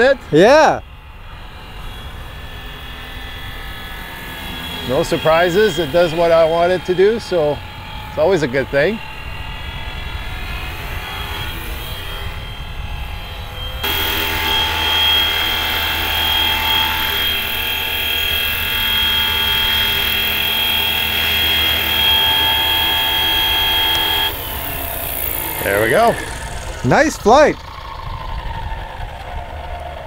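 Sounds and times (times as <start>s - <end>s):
rc helicopter motor whine: 0.0s - 30.0s.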